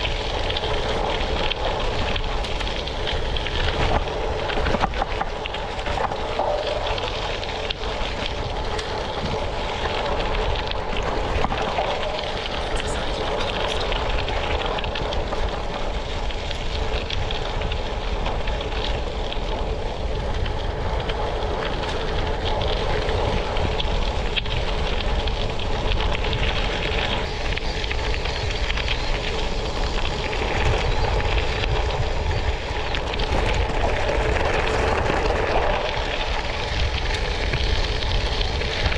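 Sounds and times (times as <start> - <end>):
tyres crunching over gravel: 0.0 - 38.9
wind on microphone: 0.0 - 38.9.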